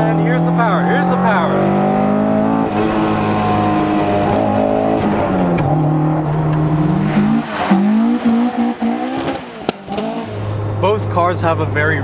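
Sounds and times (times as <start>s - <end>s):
car engine revving high: 0.0s - 10.8s.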